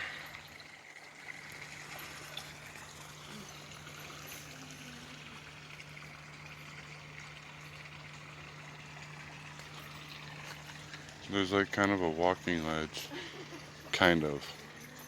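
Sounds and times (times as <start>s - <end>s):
stream trickling: 0.0s - 15.0s.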